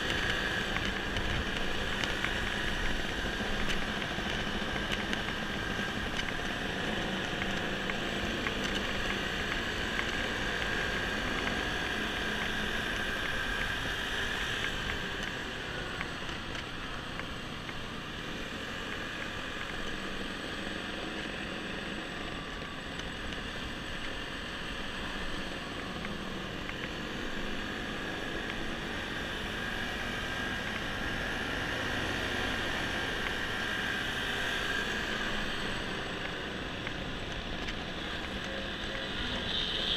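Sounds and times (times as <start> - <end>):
road and wind noise: 0.0 - 39.9
scooter engines running: 0.0 - 39.9.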